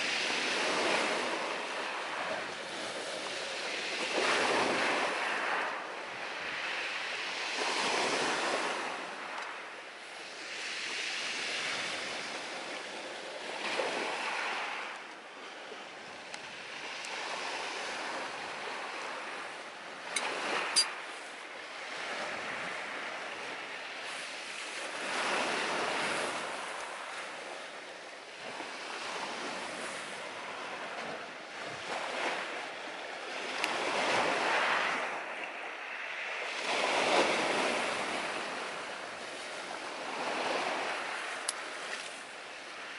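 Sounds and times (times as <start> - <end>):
waves breaking on shore: 0.0 - 42.9.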